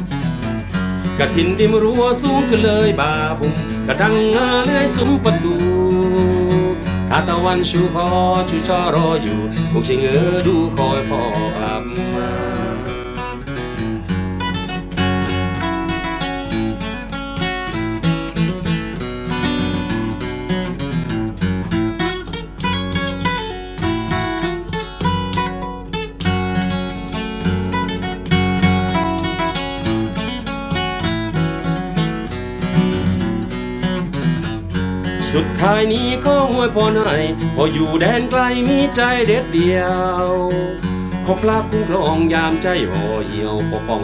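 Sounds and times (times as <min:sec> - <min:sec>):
acoustic guitar picking and strumming: 0:00.0 - 0:44.0.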